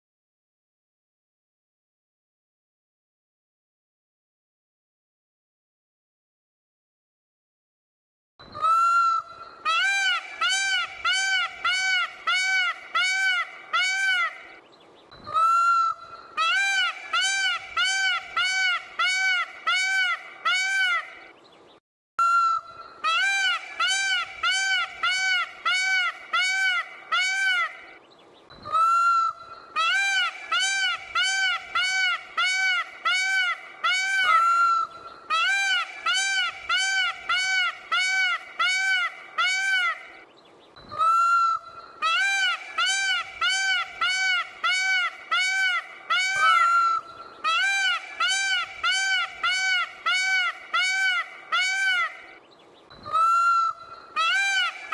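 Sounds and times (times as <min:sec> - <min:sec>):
peacock calling: 0:08.4 - 0:21.4, 0:22.2 - 0:54.9.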